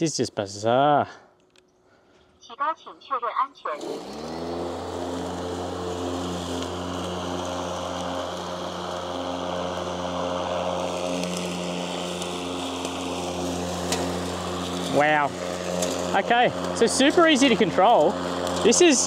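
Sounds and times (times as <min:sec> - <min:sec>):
electric lawn mower running: 0:03.7 - 0:19.0.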